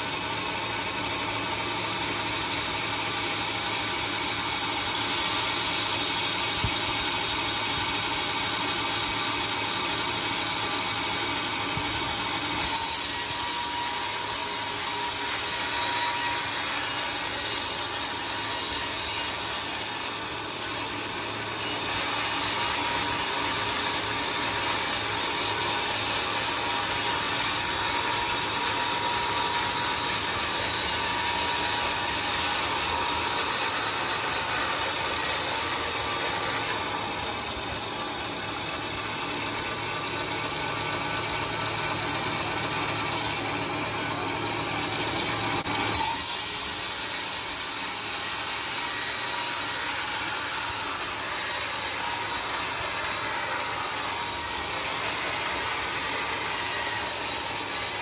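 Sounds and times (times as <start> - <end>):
bandsaw sawing through log: 0.0 - 58.0.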